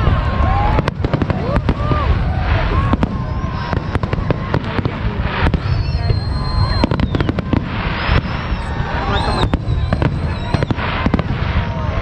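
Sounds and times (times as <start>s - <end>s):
fireworks bangs and crackles: 0.0s - 12.0s
fireworks whistling: 0.0s - 12.0s.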